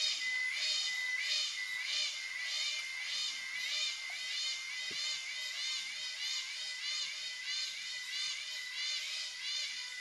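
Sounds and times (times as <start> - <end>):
cicadas whining: 0.0 - 10.0.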